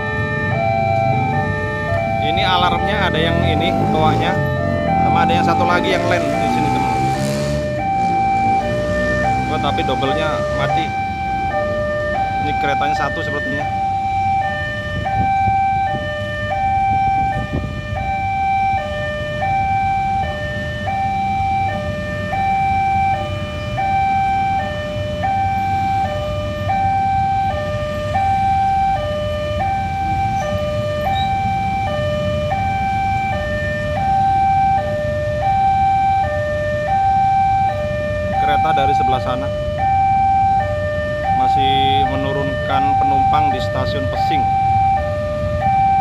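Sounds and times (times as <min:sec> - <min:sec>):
low rumble of road traffic: 0:00.0 - 0:46.0
two-tone level crossing alarm: 0:00.0 - 0:46.0.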